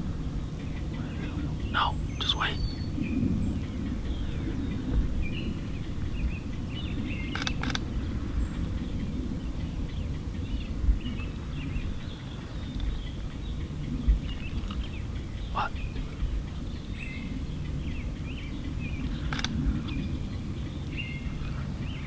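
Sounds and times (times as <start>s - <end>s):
low rumbling background noise: 0.0s - 22.0s
small birds chirping: 0.0s - 22.0s.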